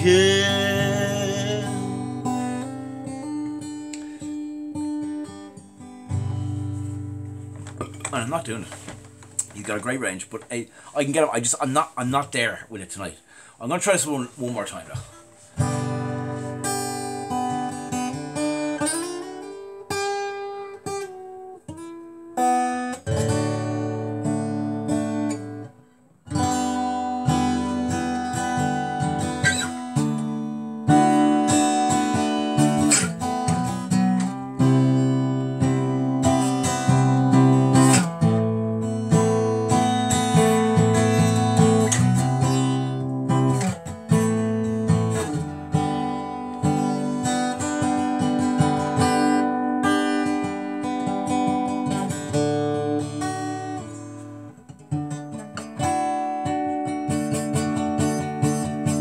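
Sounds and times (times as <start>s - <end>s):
acoustic guitar strummed and picked: 0.0s - 59.0s.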